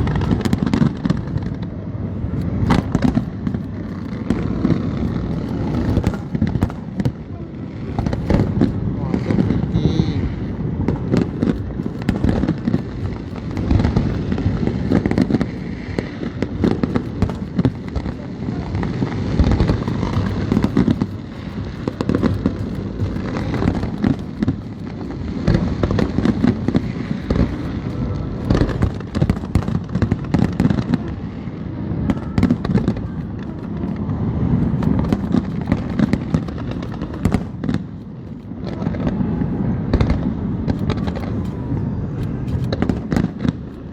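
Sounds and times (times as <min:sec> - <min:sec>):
crackling firework shells: 0:00.0 - 0:43.9
fireworks booms and bangs: 0:00.0 - 0:43.9.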